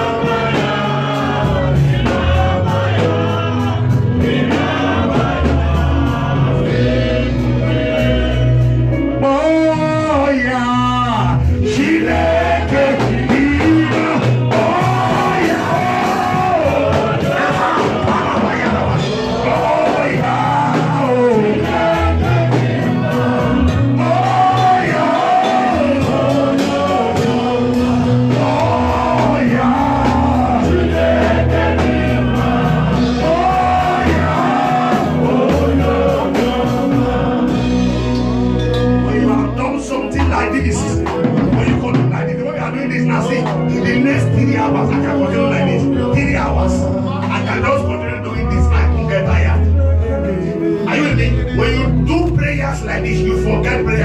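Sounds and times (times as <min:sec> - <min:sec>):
gospel singing with band: 0:00.0 - 0:54.0
sustained bass: 0:00.0 - 0:54.0.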